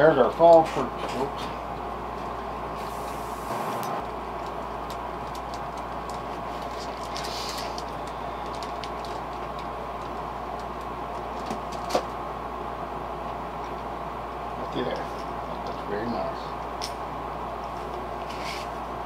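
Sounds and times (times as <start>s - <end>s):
steady motor hum: 0.0s - 19.0s.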